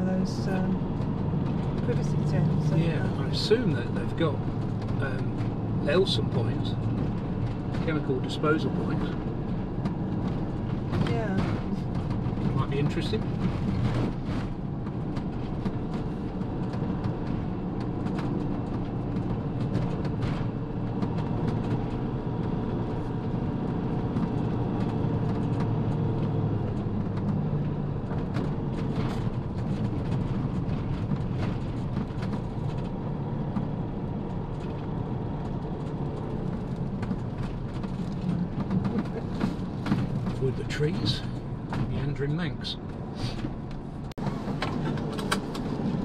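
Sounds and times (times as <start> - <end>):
engine and tyre drone: 0.0 - 46.0
knocks and rattles from bumps: 0.4 - 46.0.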